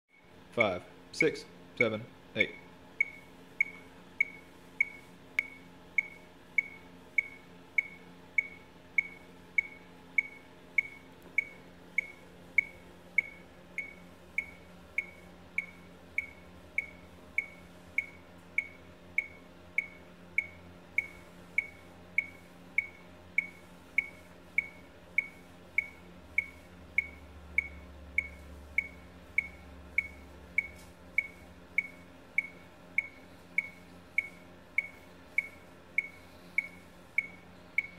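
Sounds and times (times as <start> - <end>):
electronic metronome beeping: 1.2 - 37.9.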